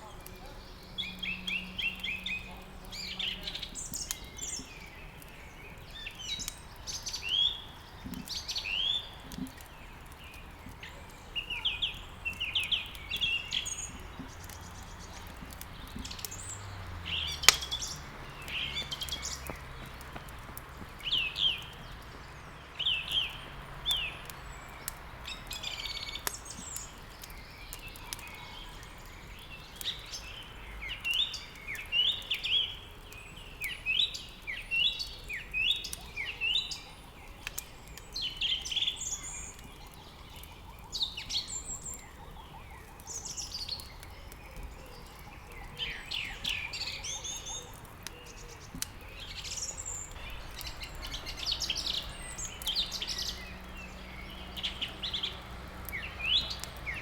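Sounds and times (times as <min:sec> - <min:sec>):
small songbirds chirping: 0:00.0 - 0:57.0
wood fire crackling: 0:00.0 - 0:57.0.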